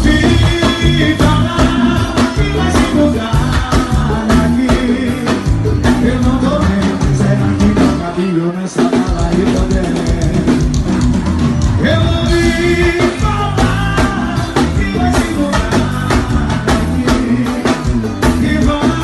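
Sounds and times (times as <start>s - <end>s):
man singing: 0.0s - 11.0s, 11.7s - 19.0s
live band music over pa: 0.0s - 19.0s.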